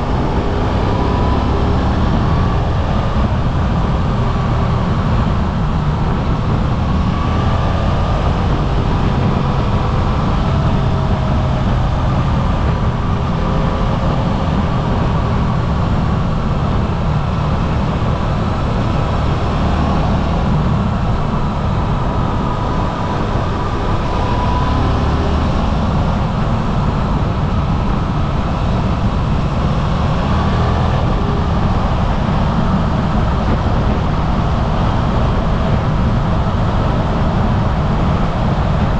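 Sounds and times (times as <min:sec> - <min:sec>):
road noise: 0:00.0 - 0:38.9
wind noise: 0:00.0 - 0:38.9.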